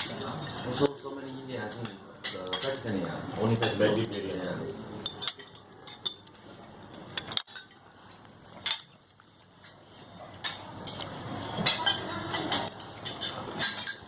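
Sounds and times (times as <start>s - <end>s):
cutlery and dishes clinking: 0.0s - 14.0s.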